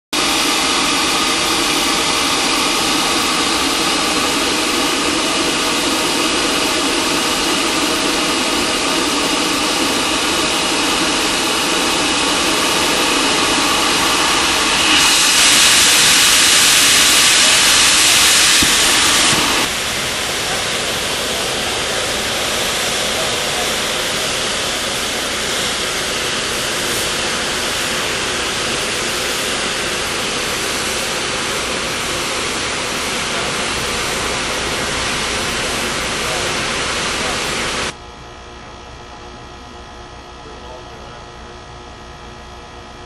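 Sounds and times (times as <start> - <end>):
water discharging with rushing hiss: 0.2 - 37.9.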